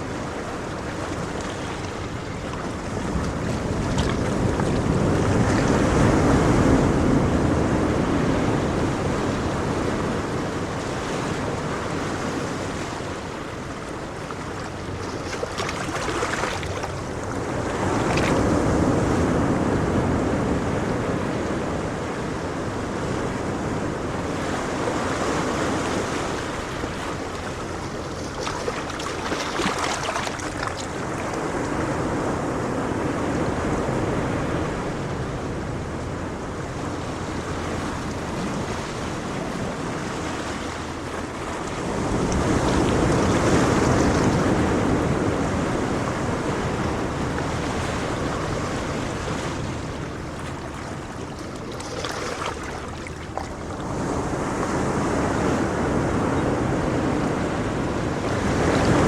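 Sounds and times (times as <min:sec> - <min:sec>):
ocean waves washing on shore: 0:00.0 - 0:59.0
wind noise: 0:00.0 - 0:59.0.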